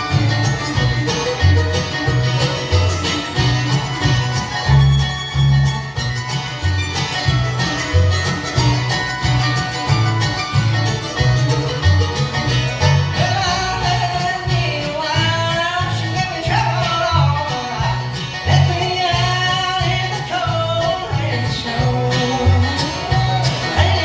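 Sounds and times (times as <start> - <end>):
banjo: 0.0 - 24.0
fiddle melody: 0.0 - 24.0
guitar: 0.0 - 24.0
steady bass beat: 0.0 - 24.0.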